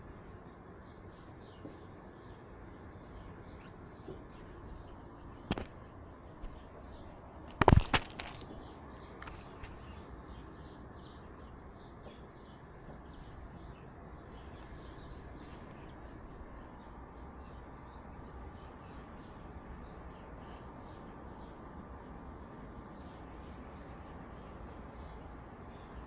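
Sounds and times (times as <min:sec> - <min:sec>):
small bird chirping: 0:00.0 - 0:26.0
steady outdoor hiss: 0:00.0 - 0:26.0.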